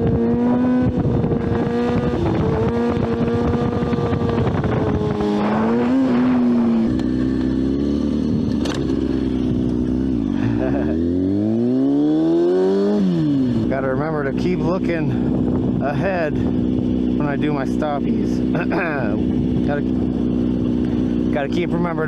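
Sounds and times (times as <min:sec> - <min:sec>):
rumbling wind noise: 0:00.0 - 0:10.6, 0:11.2 - 0:22.0
motorcycle engine running: 0:00.0 - 0:22.0.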